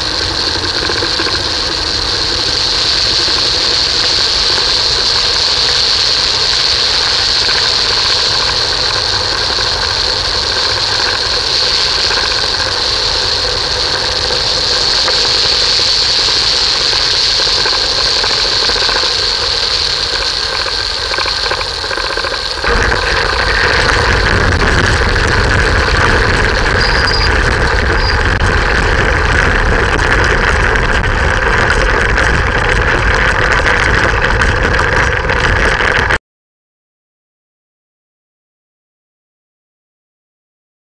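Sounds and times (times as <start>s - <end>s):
wheels rumbling on rough grass: 0.0s - 20.4s, 21.1s - 36.2s.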